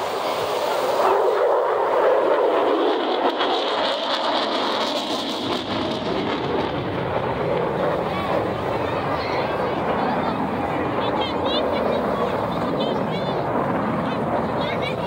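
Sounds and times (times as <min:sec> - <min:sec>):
jet flying over: 0:00.0 - 0:15.0.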